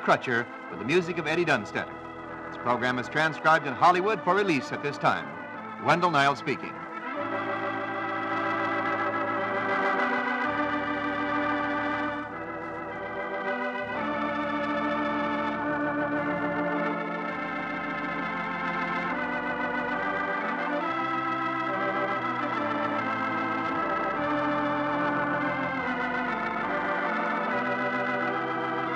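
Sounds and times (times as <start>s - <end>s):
organ chords: 0.0s - 28.9s.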